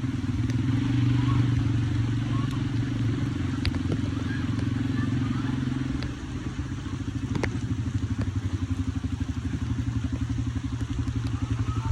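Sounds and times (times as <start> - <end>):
atv engine idling: 0.0 - 11.9.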